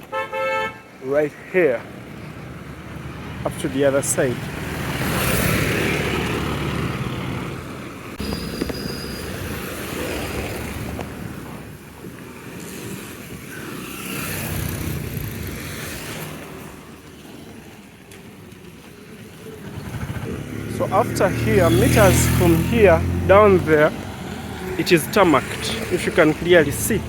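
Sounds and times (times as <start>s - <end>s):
rushing road noise: 0.0s - 27.0s.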